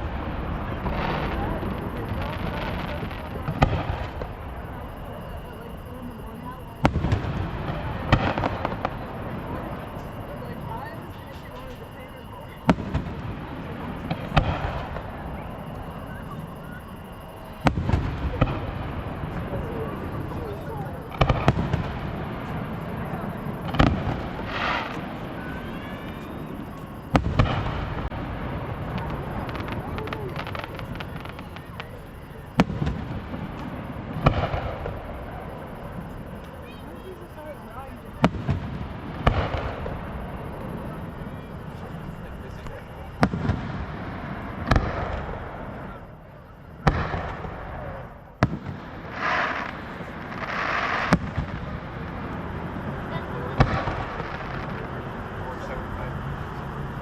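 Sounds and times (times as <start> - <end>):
firework bang: 0.0 - 5.2, 6.0 - 12.0, 12.6 - 36.8, 38.2 - 46.1, 46.8 - 55.8
firework hiss and whistle: 0.0 - 57.0.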